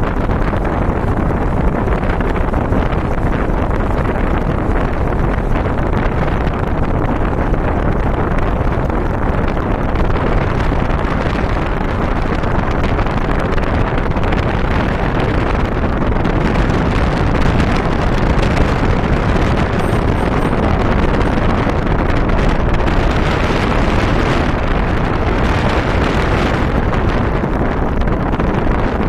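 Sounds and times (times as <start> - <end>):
low road rumble: 0.0 - 29.0
wind buffeting microphone: 0.0 - 29.0.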